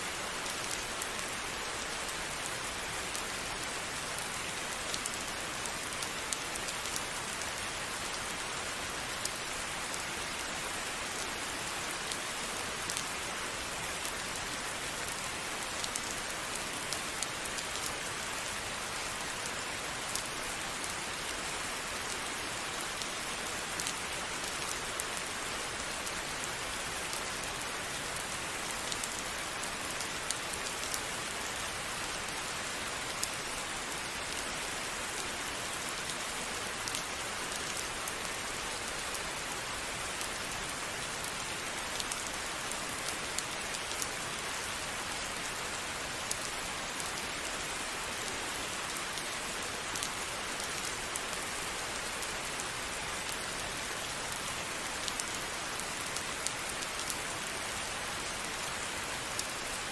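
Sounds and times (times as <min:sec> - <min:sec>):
rain pattering: 0:00.1 - 0:59.9.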